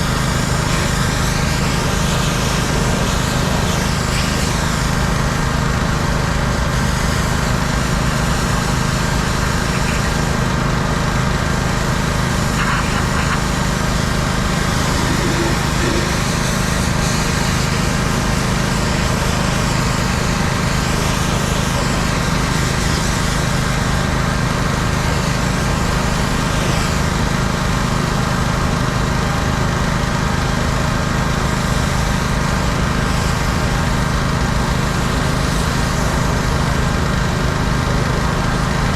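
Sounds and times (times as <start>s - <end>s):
high-pressure water spray hiss: 0.0s - 38.9s
pressure washer engine running: 0.0s - 38.9s.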